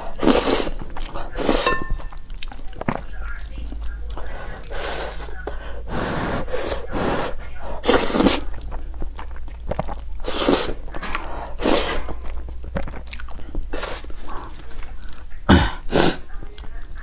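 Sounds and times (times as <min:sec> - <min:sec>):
person chewing and slurping noodles: 0:00.0 - 0:17.0.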